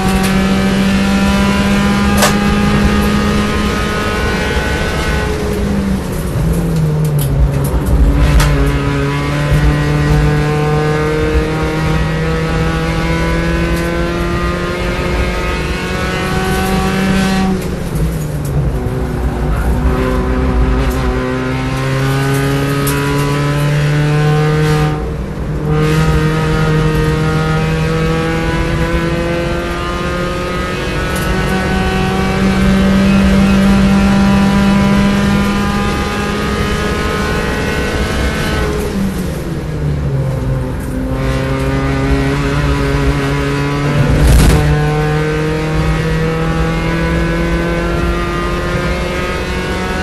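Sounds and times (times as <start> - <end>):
race car engine accelerating: 0.0 - 50.0.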